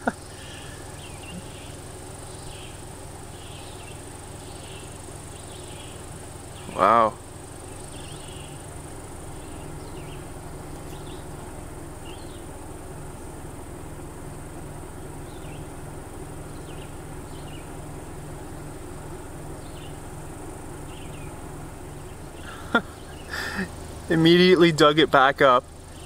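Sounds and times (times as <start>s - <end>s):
high-pitched insect buzz: 0.0s - 24.6s
low hum: 0.0s - 26.0s.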